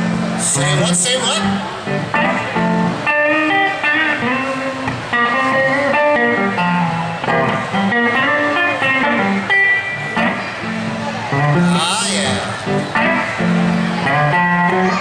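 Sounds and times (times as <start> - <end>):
electric guitar solo: 0.0 - 15.0.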